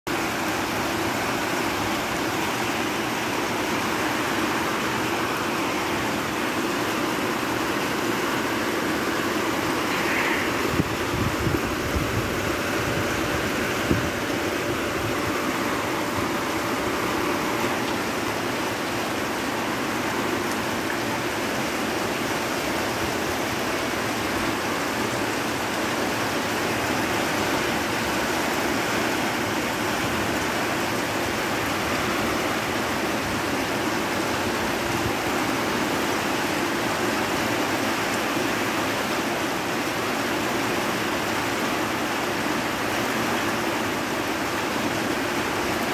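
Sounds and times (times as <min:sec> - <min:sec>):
heavy rain pouring: 0:00.1 - 0:45.9.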